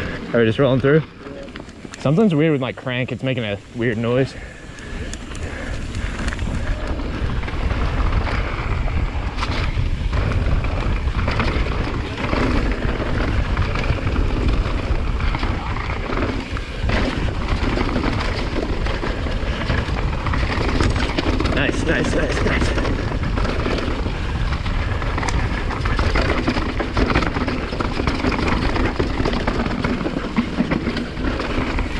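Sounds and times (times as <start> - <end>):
bike rattling: 0.0 - 31.9
bike tyres on dirt trail: 0.0 - 31.9
wind rumbling on microphone: 0.0 - 31.9.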